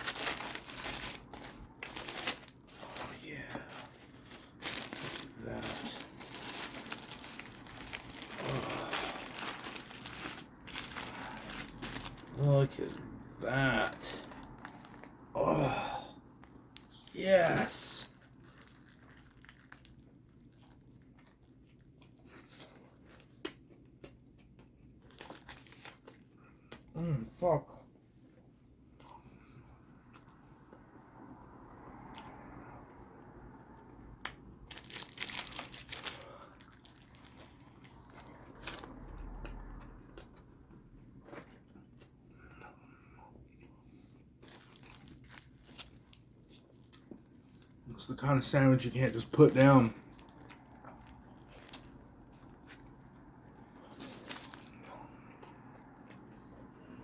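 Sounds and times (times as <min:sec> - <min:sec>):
person chewing and crunching food: 0:00.0 - 0:27.0, 0:34.2 - 0:47.8, 0:49.9 - 0:57.0.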